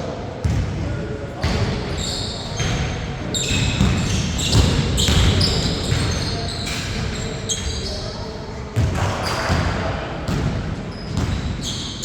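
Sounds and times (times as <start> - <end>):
basketball bouncing on court: 0.4 - 0.8, 1.4 - 7.8, 8.8 - 11.8
sneakers squeaking: 0.4 - 0.8, 1.4 - 12.0.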